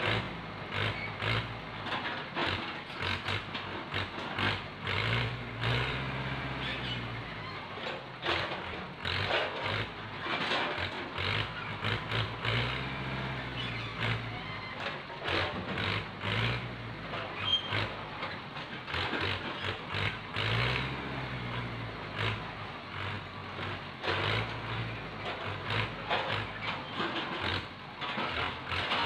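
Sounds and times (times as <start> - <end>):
irregular clatter: 0.0 - 6.0, 6.6 - 12.8, 13.5 - 20.9, 21.5 - 29.0
tractor diesel engine running: 0.0 - 29.0.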